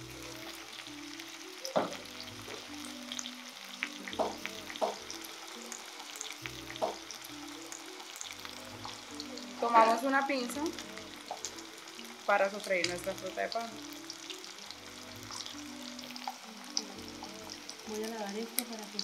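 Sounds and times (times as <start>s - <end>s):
fish and slices sizzling in oil: 0.0s - 19.0s.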